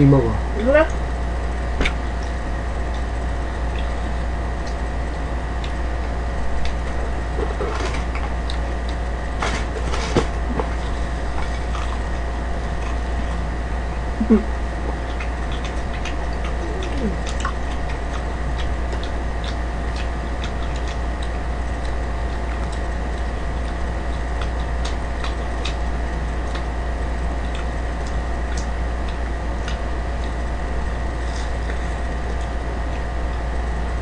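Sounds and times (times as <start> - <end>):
low background hum: 0.0 - 34.0
eating clicks and crunches: 0.9 - 34.0.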